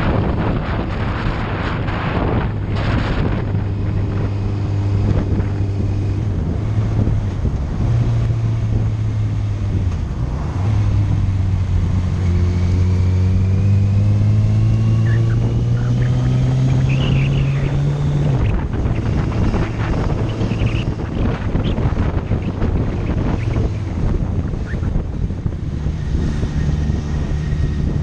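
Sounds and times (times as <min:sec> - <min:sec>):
motorcycle engine accelerating: 0:00.0 - 0:28.0
wind noise on microphone: 0:00.0 - 0:28.0.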